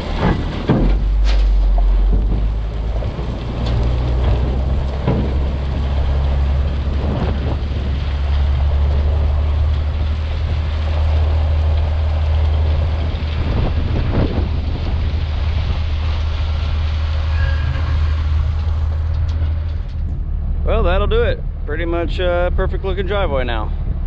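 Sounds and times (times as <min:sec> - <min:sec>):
diesel truck engine droning: 0:00.0 - 0:24.0.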